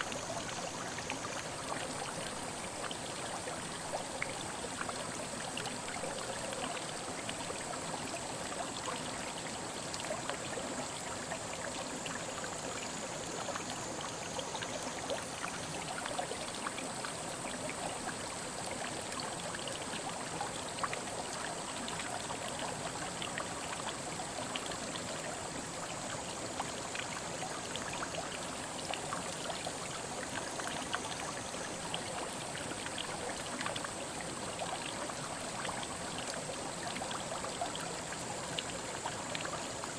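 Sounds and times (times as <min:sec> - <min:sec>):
faint high-pitched whine: 0:00.0 - 0:39.9
stream running over rocks: 0:00.0 - 0:39.9.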